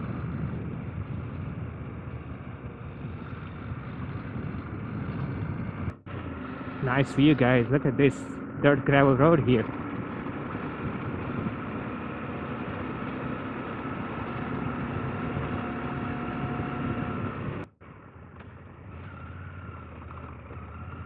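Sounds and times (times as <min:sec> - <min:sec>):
wind noise: 0:00.0 - 0:17.7
motorcycle engine running: 0:00.0 - 0:21.0.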